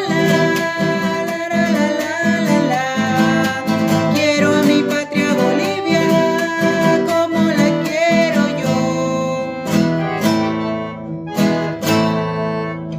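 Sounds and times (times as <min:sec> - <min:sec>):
acoustic guitar strumming: 0:00.0 - 0:12.9
person singing: 0:00.0 - 0:12.9.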